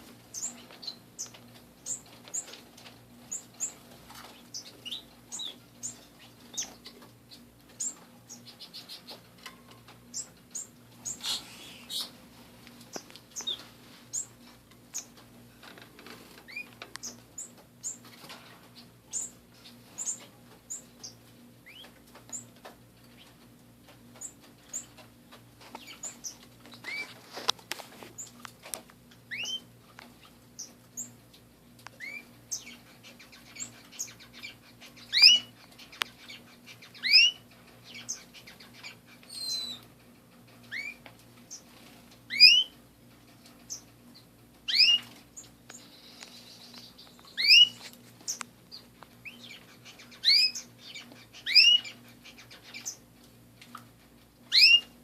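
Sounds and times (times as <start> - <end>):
canaries chirping: 0.0 - 31.2, 31.8 - 55.0.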